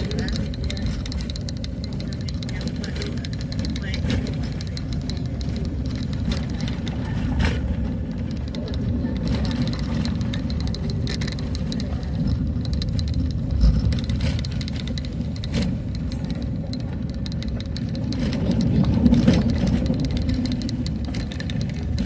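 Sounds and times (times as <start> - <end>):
knocks and rattles: 0.0 - 22.0
vehicle driving on road: 0.0 - 22.0.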